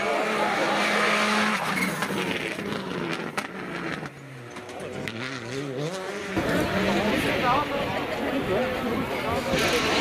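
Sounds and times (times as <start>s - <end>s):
rally car engine driving away: 0.0s - 10.0s.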